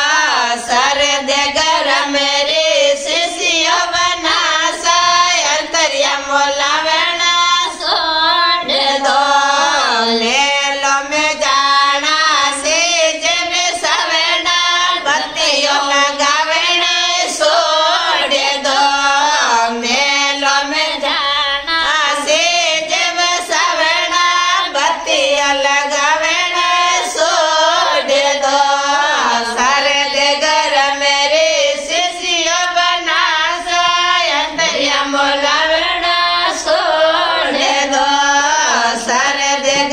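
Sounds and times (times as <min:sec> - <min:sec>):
women singing unaccompanied: 0:00.0 - 0:39.9.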